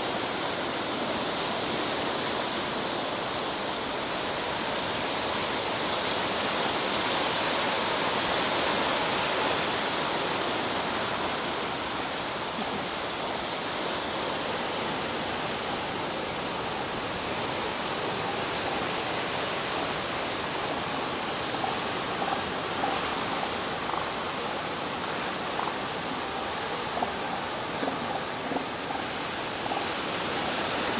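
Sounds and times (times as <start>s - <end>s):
ocean surf breaking: 0.0s - 30.9s.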